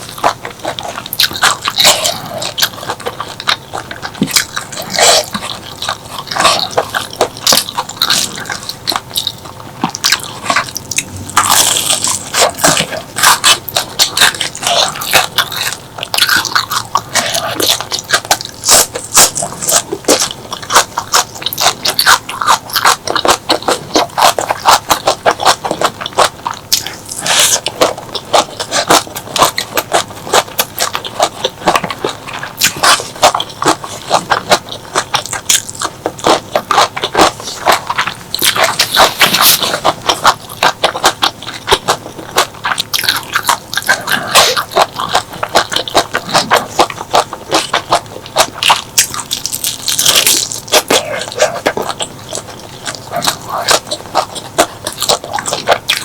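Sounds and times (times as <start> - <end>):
crunchy chewing and biting: 0.0 - 56.0.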